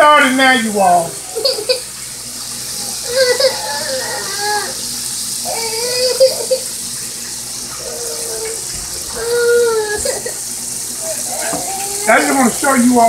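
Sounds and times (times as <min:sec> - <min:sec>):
chicken deep-frying in oil: 0:00.1 - 0:13.0.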